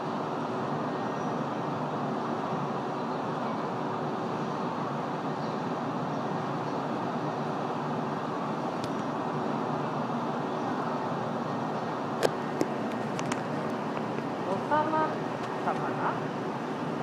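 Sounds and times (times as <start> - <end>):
city traffic hum: 0.0 - 17.0.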